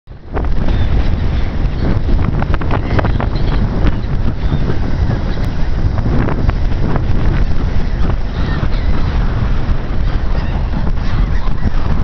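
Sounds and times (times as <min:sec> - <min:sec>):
sea water washing against seawall: 0:00.1 - 0:12.0
wind buffeting microphone: 0:00.1 - 0:12.0.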